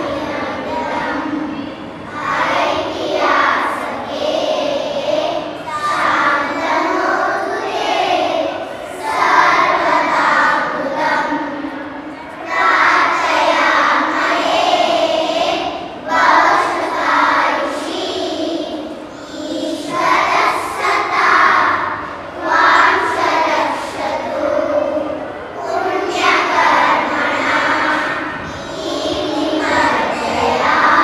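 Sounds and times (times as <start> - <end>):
children singing: 0.0 - 31.0.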